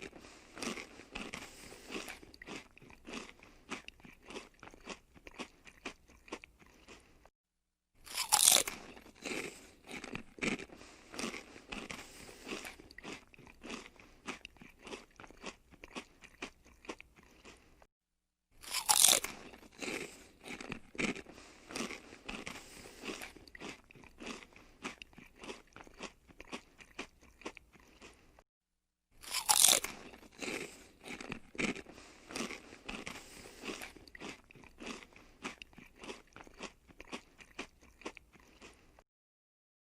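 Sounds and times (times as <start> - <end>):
crunchy chewing: 0.0 - 7.3, 8.0 - 17.9, 18.6 - 28.4, 29.2 - 39.0
person biting crispy potatoes: 0.0 - 7.3, 8.0 - 17.9, 18.6 - 28.4, 29.2 - 39.0.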